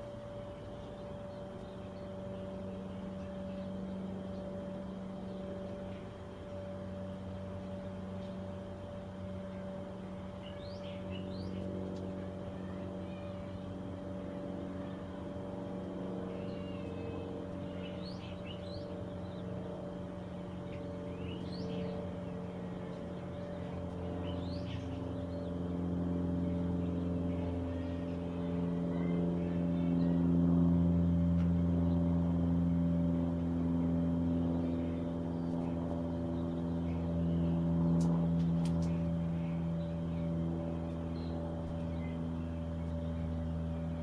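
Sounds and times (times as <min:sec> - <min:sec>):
low motor hum: 0:00.0 - 0:44.0.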